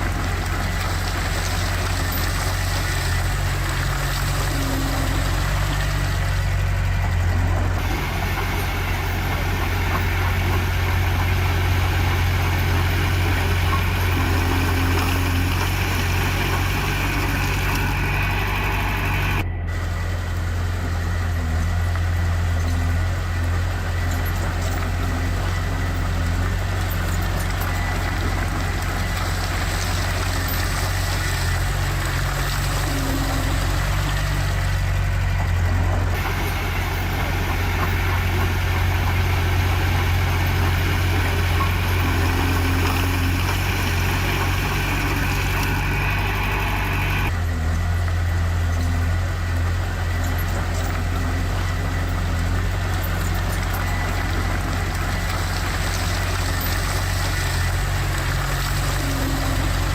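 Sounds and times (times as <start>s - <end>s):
diesel machinery engine hum: 0.0s - 59.9s.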